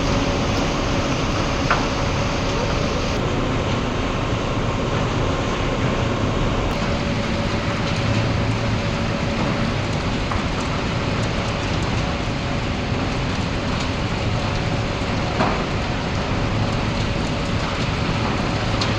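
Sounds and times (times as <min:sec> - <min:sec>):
faint steady whine: 0:00.0 - 0:11.1, 0:14.0 - 0:18.9
crane engine drone: 0:00.0 - 0:18.9.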